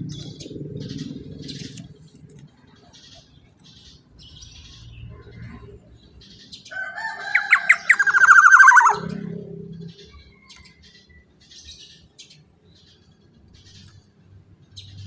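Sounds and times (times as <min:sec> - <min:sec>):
bird chirps and trilling call: 0:00.0 - 0:02.1, 0:02.8 - 0:14.0.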